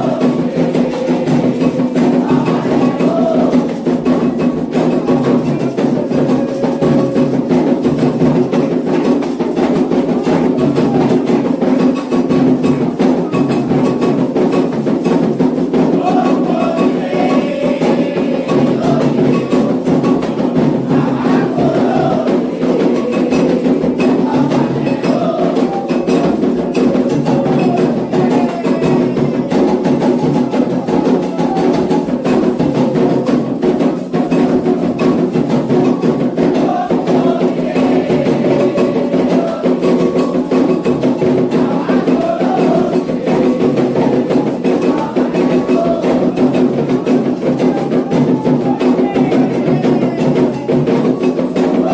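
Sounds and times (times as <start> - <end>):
hand drums fast rhythm: 0.0 - 51.9.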